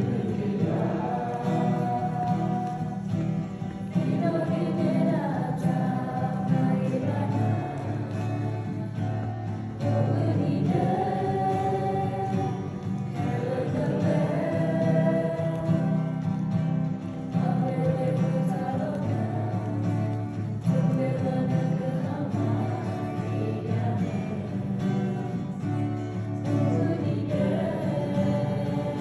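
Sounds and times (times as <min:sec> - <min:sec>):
group singing a hymn: 0:00.0 - 0:29.0.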